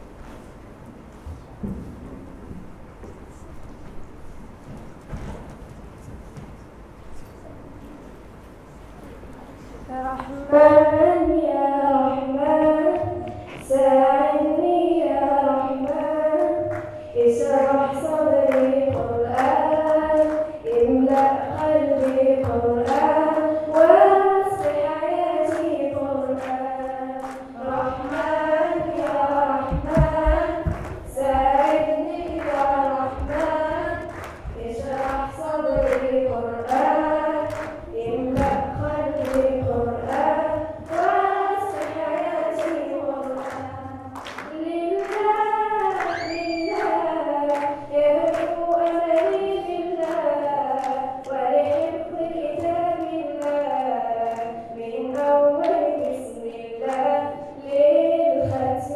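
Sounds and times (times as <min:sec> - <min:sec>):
girl singing into microphone: 0:09.8 - 0:58.9.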